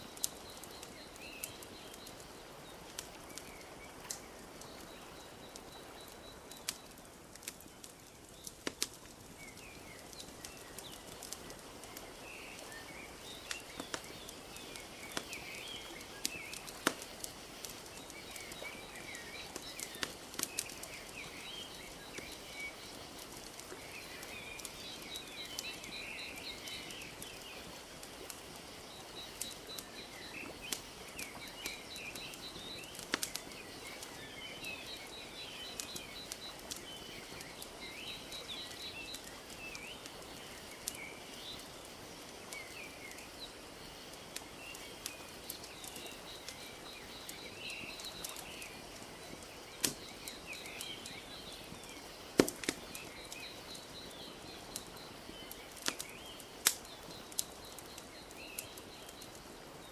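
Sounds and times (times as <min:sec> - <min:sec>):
small birds chirping: 0:00.0 - 0:59.9
wood fire crackling: 0:00.0 - 0:59.9.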